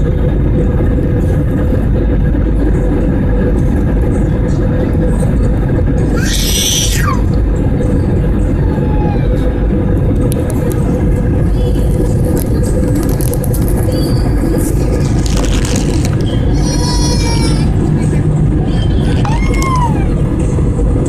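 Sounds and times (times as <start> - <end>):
constant hum: 0.0 - 21.0
jet engines rumbling: 0.0 - 21.0.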